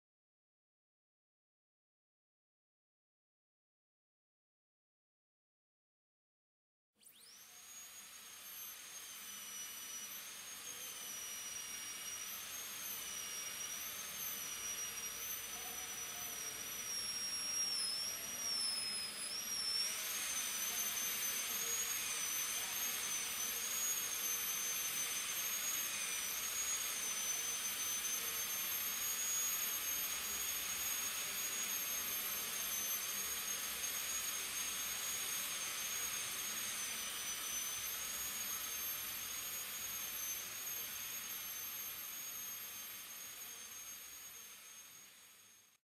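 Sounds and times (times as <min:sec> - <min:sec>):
dental drill whining: 0:07.0 - 0:45.8.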